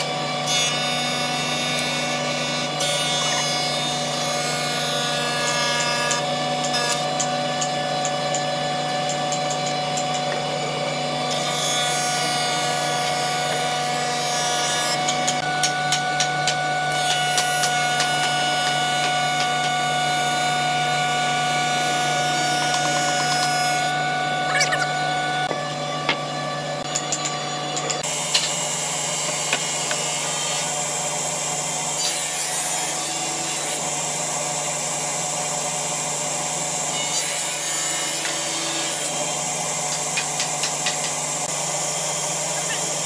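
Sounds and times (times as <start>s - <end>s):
thickness planer running: 0.0s - 43.0s.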